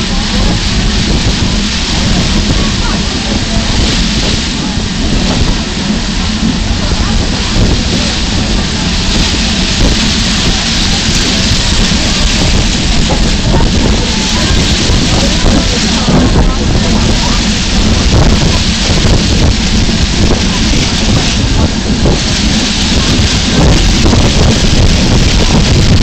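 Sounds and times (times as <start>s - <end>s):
train rushing and rumbling: 0.0s - 26.0s.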